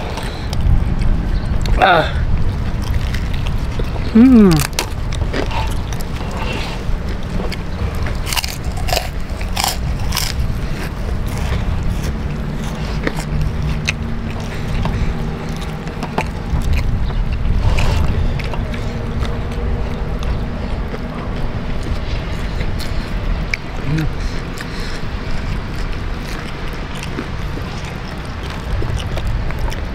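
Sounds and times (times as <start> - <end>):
crunching and chewing: 0.0 - 29.9
low rumble: 0.0 - 29.9.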